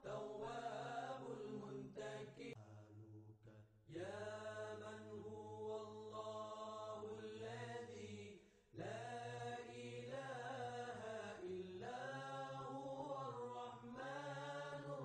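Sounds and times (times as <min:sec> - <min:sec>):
slow chanting voice: 0:00.0 - 0:15.0.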